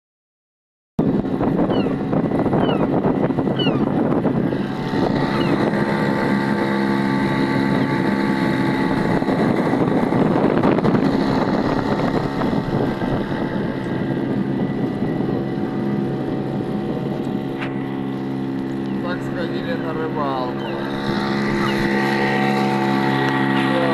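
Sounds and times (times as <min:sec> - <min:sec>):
outboard motor running: 0:01.0 - 0:23.9.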